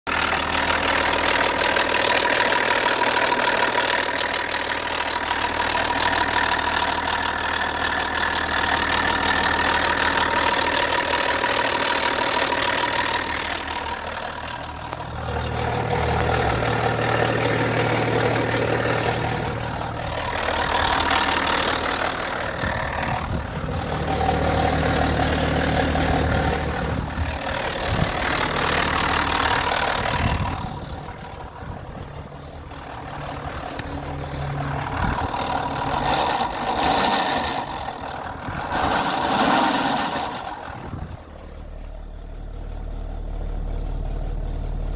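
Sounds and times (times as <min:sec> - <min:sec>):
diesel engine idling: 0:00.0 - 0:44.9
loud engine ticking: 0:00.0 - 0:44.9.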